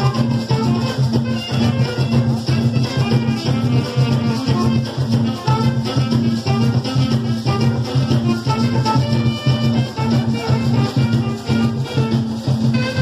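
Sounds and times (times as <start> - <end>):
drums beating: 0.0 - 13.0
live band music: 0.0 - 13.0
maracas: 0.0 - 13.0.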